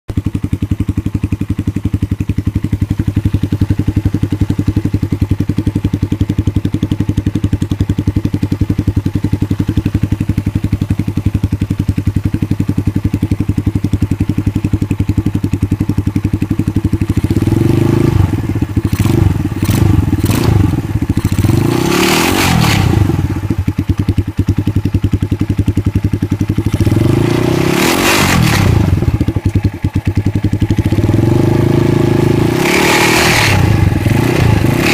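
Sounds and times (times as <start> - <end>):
motorcycle engine idling with rattle: 0.1 - 34.9
motorcycle engine revving: 0.1 - 34.9.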